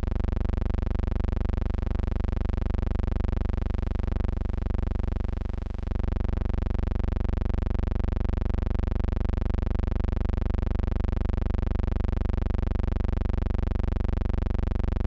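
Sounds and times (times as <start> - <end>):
electrical hum-buzz with flutter: 0.0 - 15.0.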